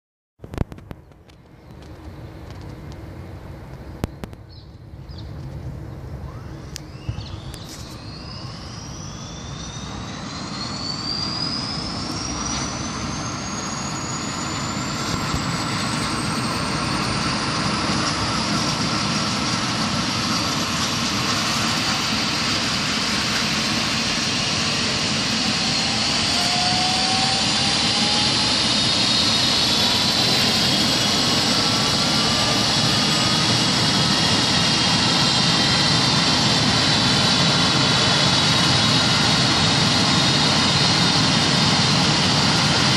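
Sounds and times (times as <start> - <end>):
lower turbine whine climbing: 0.4 - 42.9
helicopter turbine whine rising: 1.0 - 42.9.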